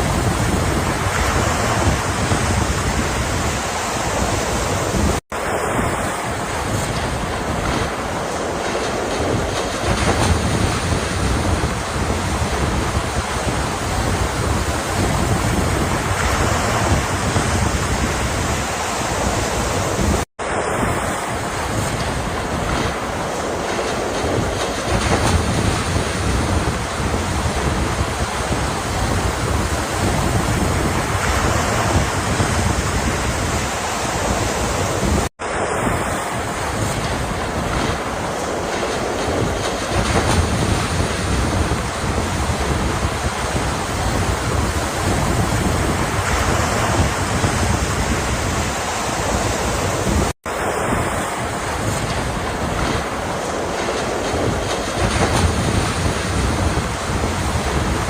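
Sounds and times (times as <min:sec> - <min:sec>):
ocean surf washing in: 0:00.0 - 0:58.0
wind rumbling on microphone: 0:00.0 - 0:58.0.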